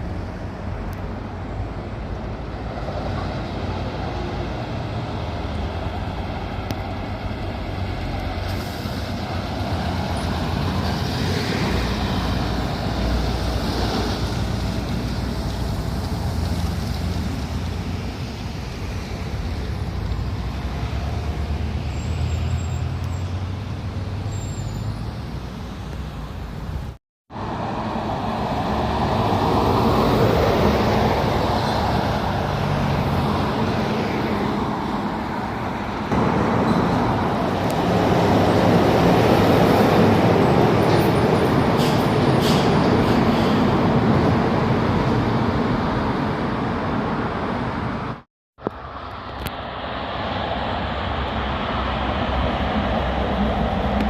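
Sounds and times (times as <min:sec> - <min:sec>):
heavy trucks driving past: 0:00.0 - 0:48.2, 0:48.8 - 0:54.0
tyre and traffic noise: 0:00.0 - 0:54.0.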